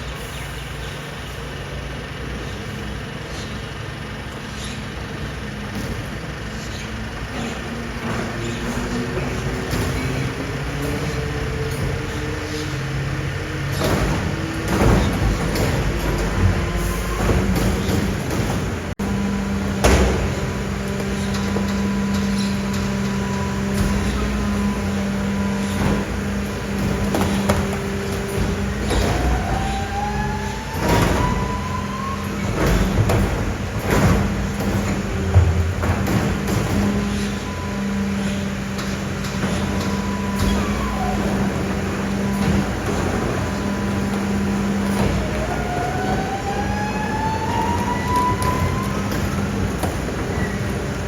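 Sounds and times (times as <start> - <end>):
garbage truck engine hum: 0.0 - 51.0
knocks and clanks: 5.6 - 51.0.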